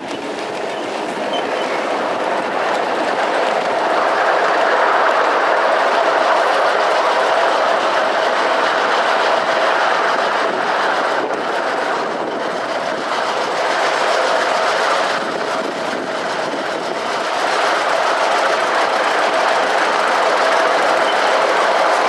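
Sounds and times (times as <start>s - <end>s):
train wheels rattling on track: 0.0s - 22.0s.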